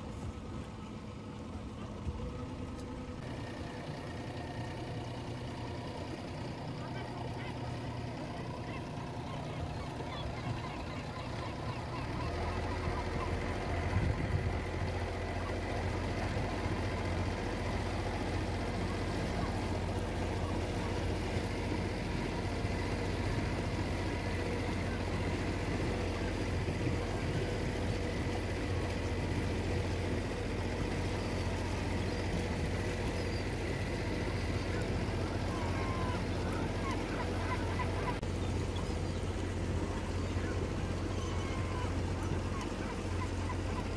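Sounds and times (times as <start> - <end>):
motorboat engine running: 0.0 - 43.9
water rushing past hull: 0.0 - 43.9.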